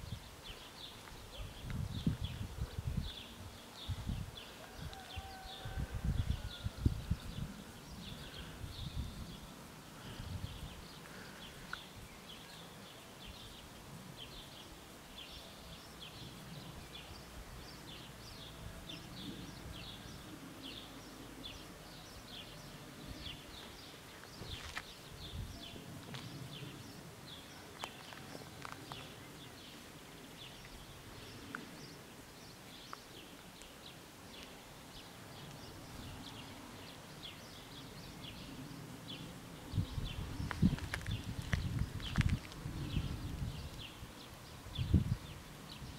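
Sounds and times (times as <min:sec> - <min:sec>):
small birds chirping: 0:00.0 - 0:05.7, 0:06.3 - 0:45.9.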